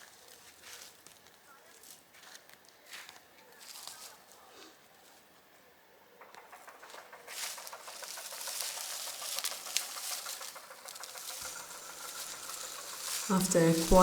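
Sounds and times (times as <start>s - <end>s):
dry mulch rustling and crackling: 0.0s - 4.5s, 7.2s - 14.0s.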